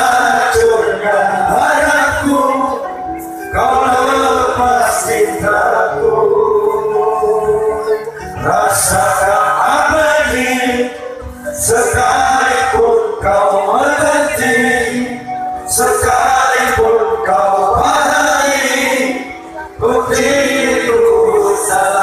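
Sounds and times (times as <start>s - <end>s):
man singing devotional song: 0.0s - 22.0s.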